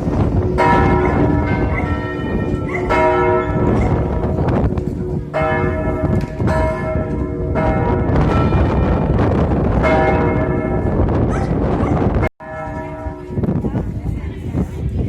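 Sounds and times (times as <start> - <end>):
church bell ringing: 0.0 - 11.2, 12.4 - 13.6.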